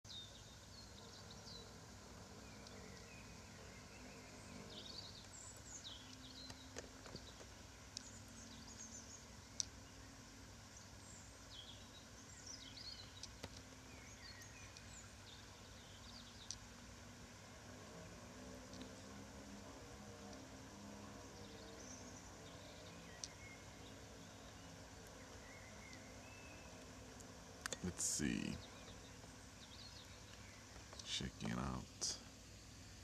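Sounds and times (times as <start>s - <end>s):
faint low hum: 0.1s - 33.0s
small birds chirping: 0.1s - 33.0s.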